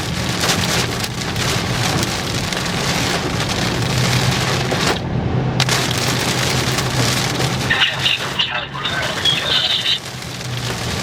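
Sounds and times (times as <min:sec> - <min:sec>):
engine and tyres on wet road: 0:00.0 - 0:11.0
heavy rain on vehicle: 0:00.0 - 0:11.0.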